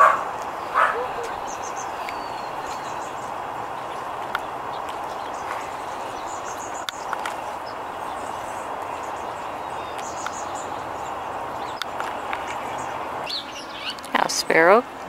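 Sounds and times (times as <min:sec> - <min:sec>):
high bird chirps: 0:00.0 - 0:04.0, 0:04.7 - 0:14.5
outdoor background hiss: 0:00.0 - 0:15.0.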